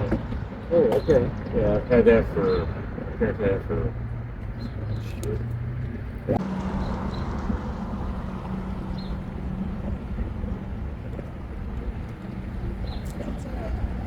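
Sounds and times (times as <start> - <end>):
low engine hum: 0.0 - 14.0
wind rumble on microphone: 0.0 - 14.0.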